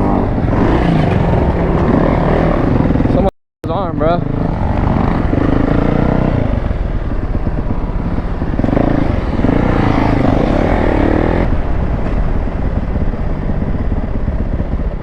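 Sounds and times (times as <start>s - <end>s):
motorcycle engine revving: 0.0s - 3.3s, 3.9s - 15.0s.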